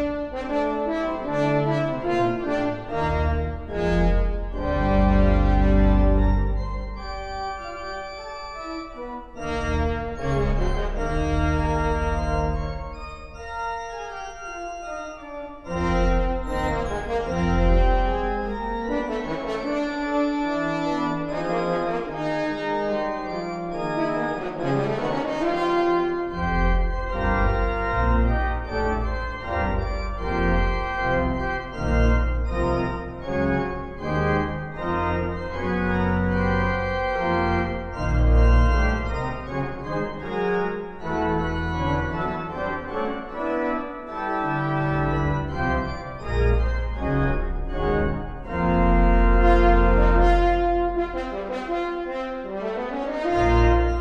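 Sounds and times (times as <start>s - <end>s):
deep organ pedal bass notes: 0.0s - 54.0s
organ playing: 0.0s - 54.0s.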